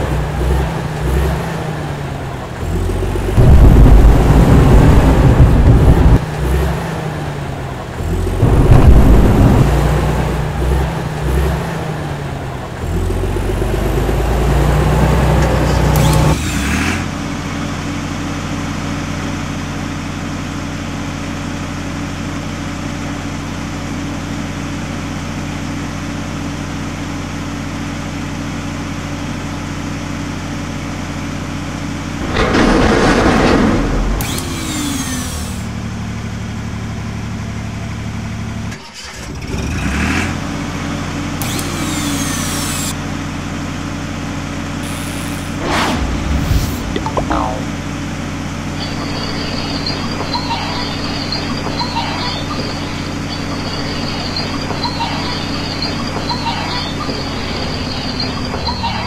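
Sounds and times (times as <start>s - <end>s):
heavy truck engine running: 0.0s - 59.0s.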